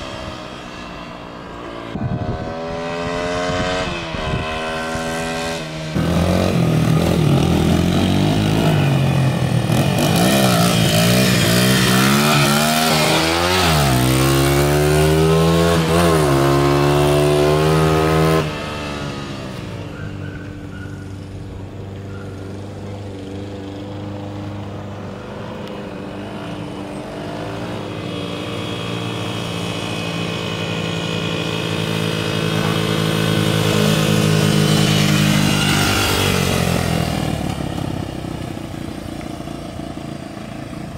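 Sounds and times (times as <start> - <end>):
dirt bike engine revving: 0.0 - 20.0, 22.4 - 39.0.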